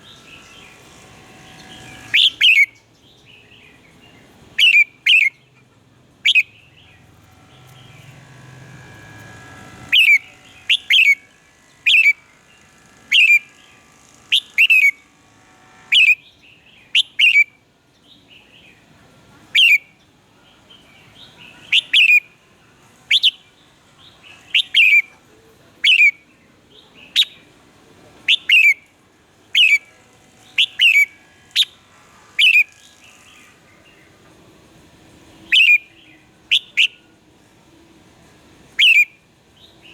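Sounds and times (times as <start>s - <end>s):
bird calling with down-sweeping notes: 0.0s - 5.6s, 6.2s - 18.8s, 19.5s - 25.2s, 25.8s - 27.5s, 28.3s - 34.1s, 35.4s - 37.1s, 38.8s - 39.9s.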